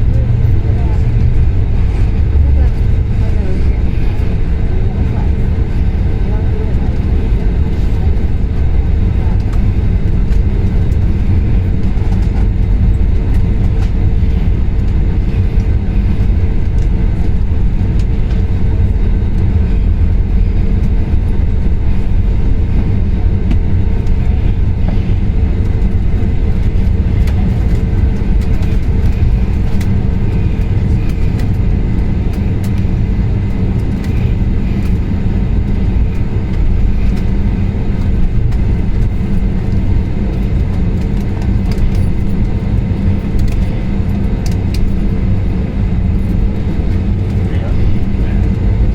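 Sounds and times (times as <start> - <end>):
faint constant hum: 0.0 - 48.9
low rumble of moving vehicle: 0.0 - 48.9.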